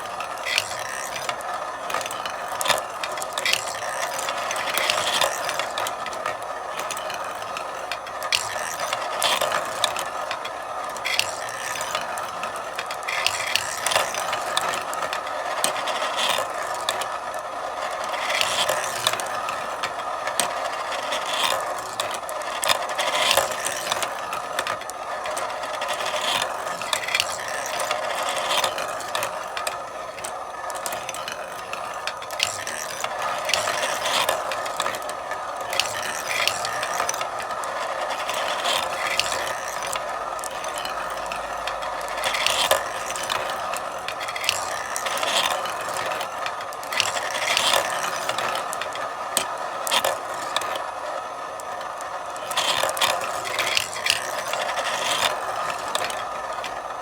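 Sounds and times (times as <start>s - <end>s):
marbles clicking on track: 0.0s - 57.0s
marbles rolling rattle: 0.0s - 57.0s.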